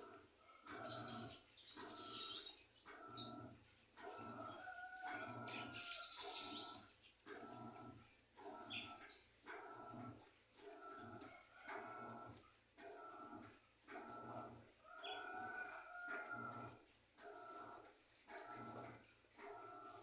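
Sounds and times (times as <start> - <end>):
songbirds chirping and twittering: 0.0 - 20.0.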